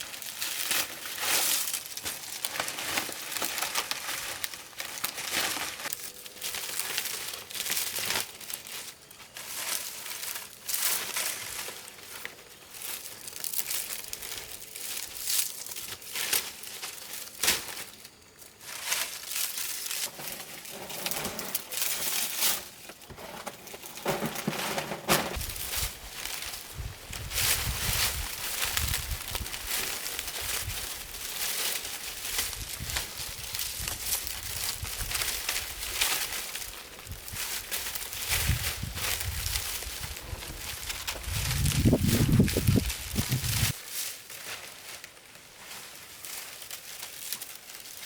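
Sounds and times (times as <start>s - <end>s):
crackling and rustling: 0.0s - 48.0s.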